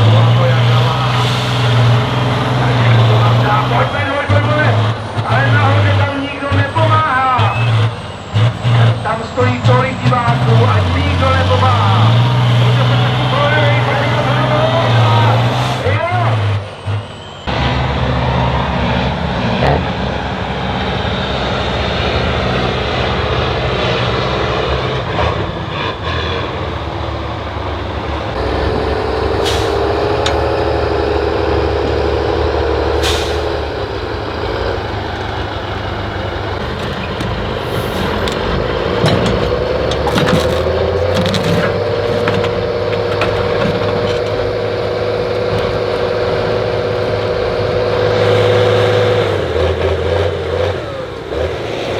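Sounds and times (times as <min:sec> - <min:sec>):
truck engine running under load: 0:00.0 - 0:51.9.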